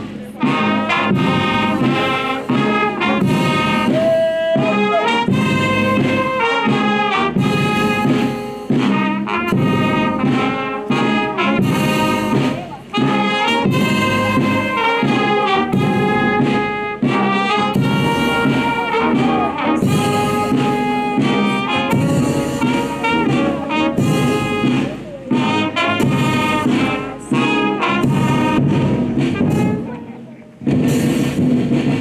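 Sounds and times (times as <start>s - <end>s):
brass music: 0.0s - 32.0s.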